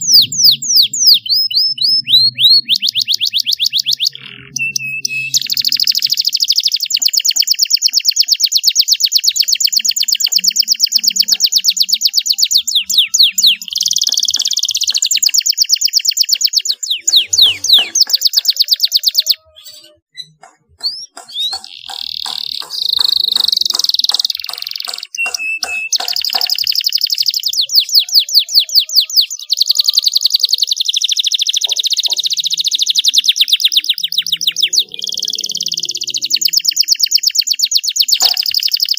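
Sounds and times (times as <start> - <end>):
canary singing in fast trills: 0.0 - 38.9.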